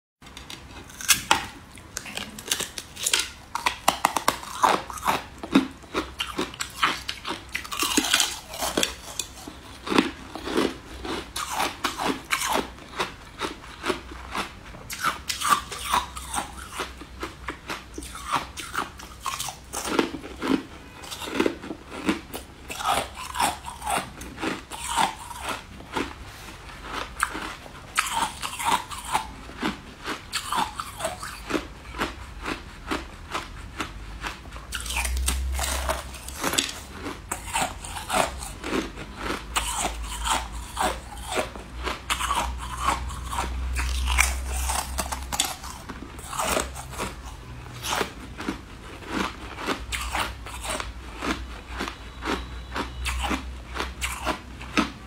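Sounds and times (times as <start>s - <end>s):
candy crunching while chewed: 0.3s - 55.0s.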